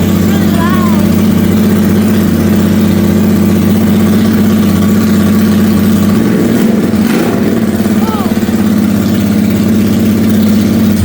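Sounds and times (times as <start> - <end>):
motorcycle engine idling loudly: 0.0 - 11.0.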